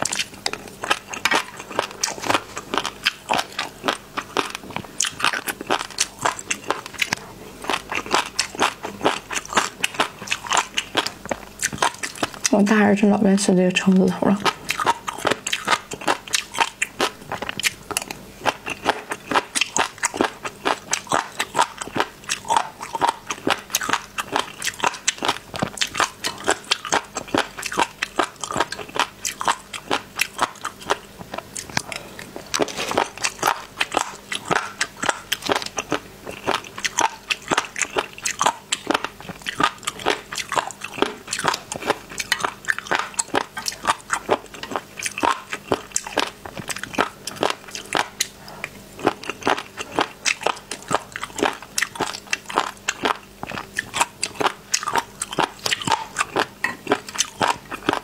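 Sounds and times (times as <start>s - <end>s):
wet crunching while chewing: 0.0s - 12.6s, 14.4s - 58.0s.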